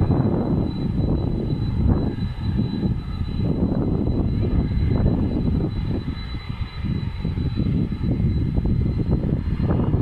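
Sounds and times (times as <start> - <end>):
jet engines at takeoff: 0.0 - 10.0.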